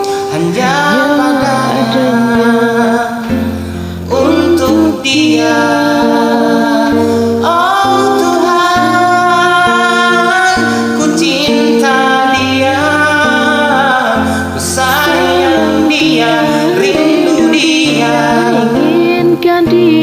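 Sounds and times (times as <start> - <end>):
backing track chords and bass: 0.0 - 20.0
person singing karaoke ballad: 0.0 - 20.0.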